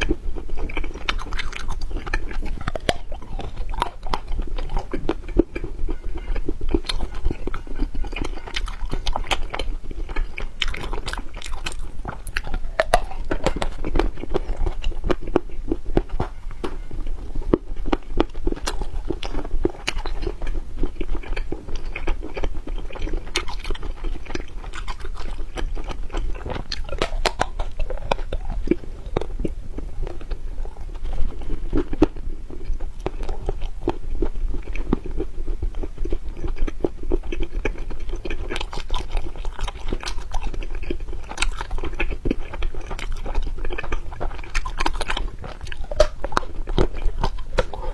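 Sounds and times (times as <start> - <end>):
biting and chewing: 0.0 - 47.9
wet mouth clicks and smacks: 0.0 - 47.9.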